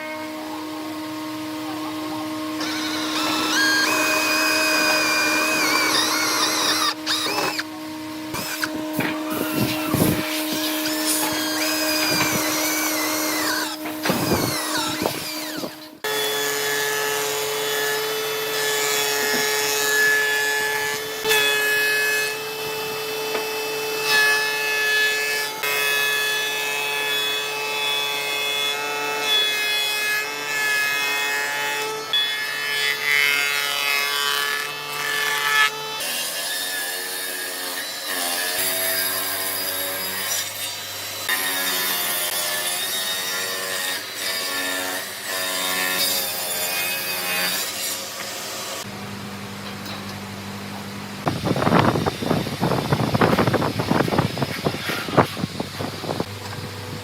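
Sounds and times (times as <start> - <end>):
power tool cutting wood: 0.0 - 49.0, 51.2 - 57.0.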